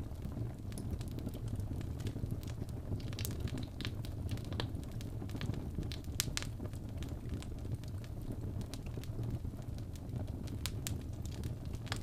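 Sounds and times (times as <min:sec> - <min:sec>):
fire flames rushing: 0:00.0 - 0:12.0
wood crackling and popping: 0:00.0 - 0:12.0.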